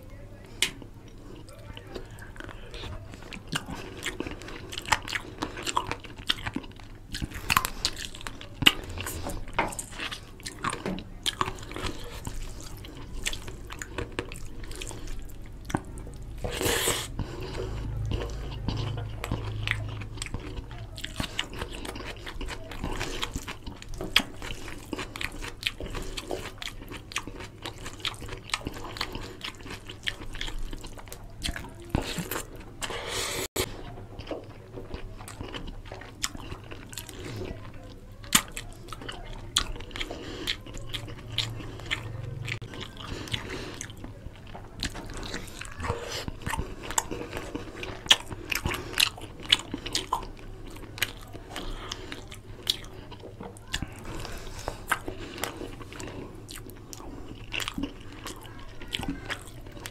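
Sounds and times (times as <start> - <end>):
wet chewing and lip smacking: 0.5 - 59.9.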